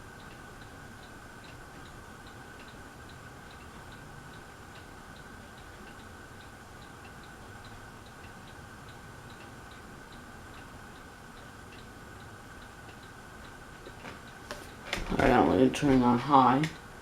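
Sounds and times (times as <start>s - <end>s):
ceiling fan humming: 0.0s - 17.0s
fan clicking: 0.0s - 17.0s.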